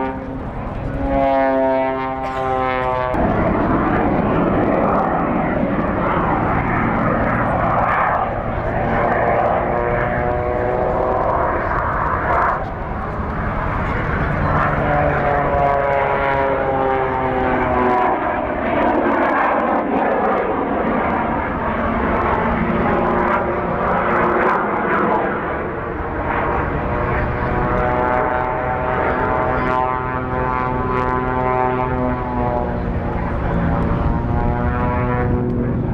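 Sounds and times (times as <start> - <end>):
airplane engine droning: 0.0 - 35.9.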